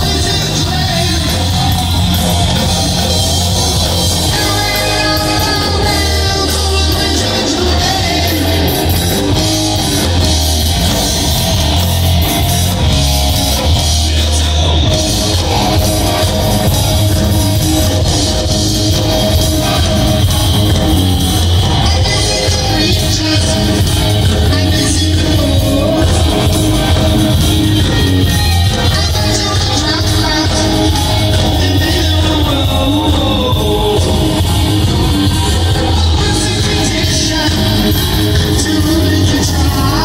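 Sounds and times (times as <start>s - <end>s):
electric guitar: 0.0s - 40.0s
live rock band playing: 0.0s - 40.0s.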